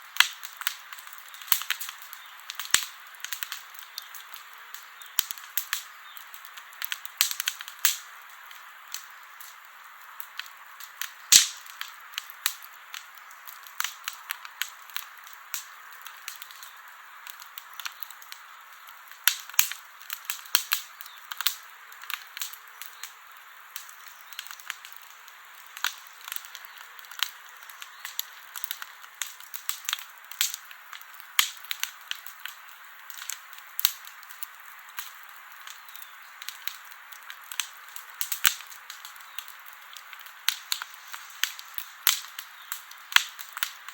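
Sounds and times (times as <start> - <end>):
campfire crackling and popping: 0.0 - 43.9.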